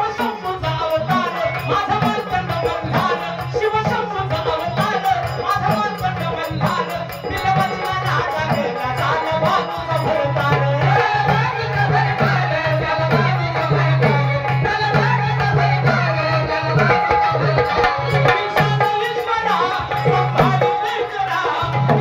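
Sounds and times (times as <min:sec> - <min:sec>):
rattling percussion: 0:00.0 - 0:22.0.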